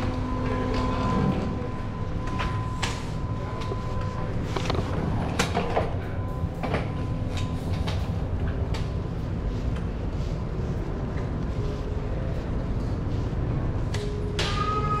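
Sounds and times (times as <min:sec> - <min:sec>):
low machinery drone: 0:00.0 - 0:15.0.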